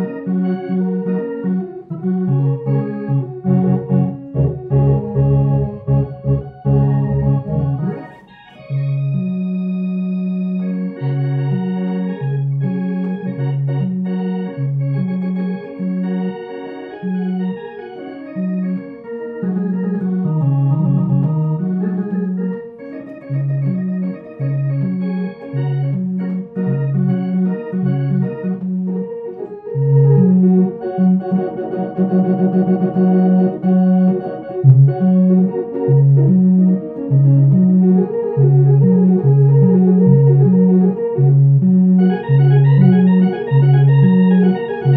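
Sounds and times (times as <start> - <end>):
electronic organ playing blues: 0.0 - 44.9.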